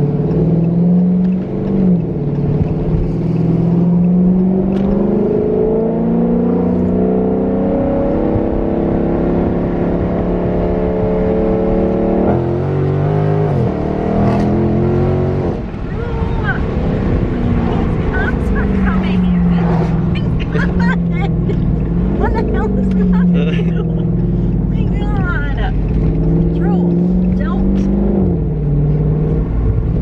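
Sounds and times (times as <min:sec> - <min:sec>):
car engine revving under load: 0:00.0 - 0:30.0.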